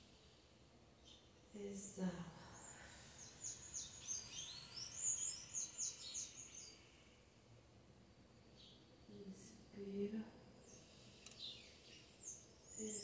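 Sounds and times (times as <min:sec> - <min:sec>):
songbird singing: 0:00.0 - 0:07.4, 0:08.4 - 0:13.0.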